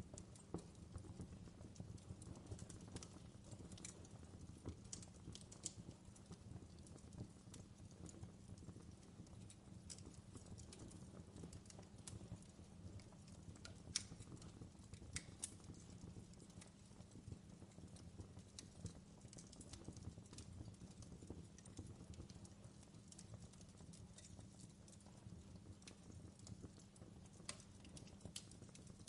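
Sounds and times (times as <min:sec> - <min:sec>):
fireplace crackling: 0:00.0 - 0:29.0.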